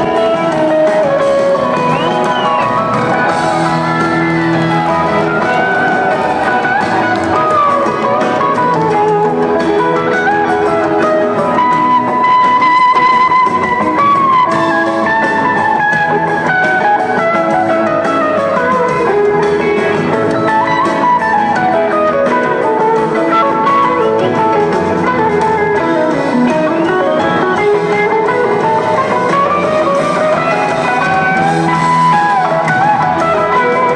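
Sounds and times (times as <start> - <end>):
electric guitar lead: 0.0 - 33.9
live rock band: 0.0 - 33.9.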